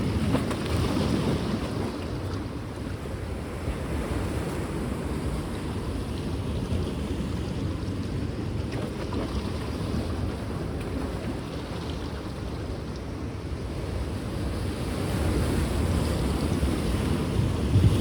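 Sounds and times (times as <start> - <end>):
surf washing on shore: 0.0 - 18.0
wind rumbling on microphone: 0.0 - 18.0.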